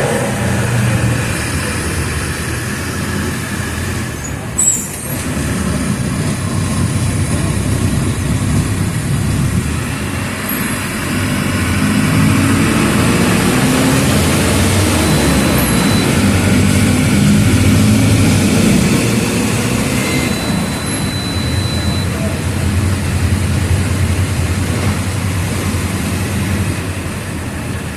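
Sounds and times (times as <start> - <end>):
bus diesel engine rumbling: 0.0 - 27.9.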